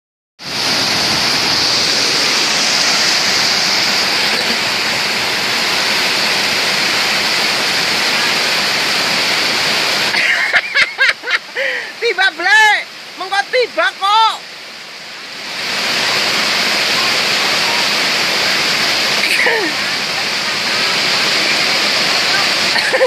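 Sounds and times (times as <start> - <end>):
rushing river water: 0.4 - 23.0.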